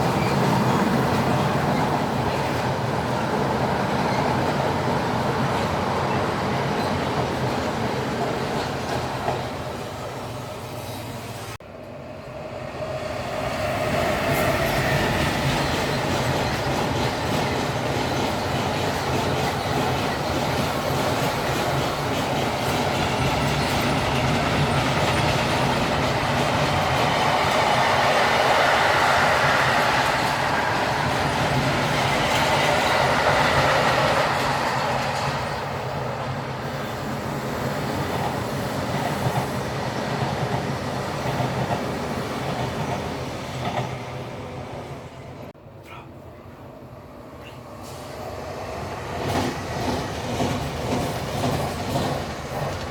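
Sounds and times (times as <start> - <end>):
train wheels on rails: 0.0 - 45.6, 47.4 - 52.9.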